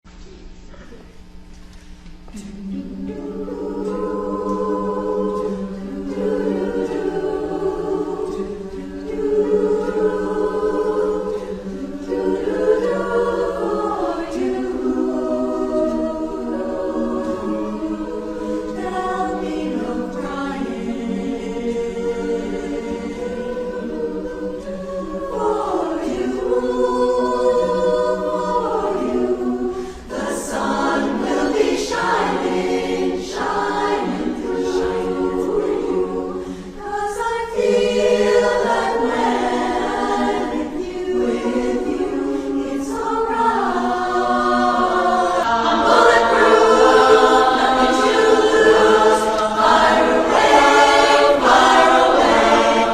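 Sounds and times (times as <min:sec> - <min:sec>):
chorus singing unaccompanied: 0:02.3 - 0:52.9.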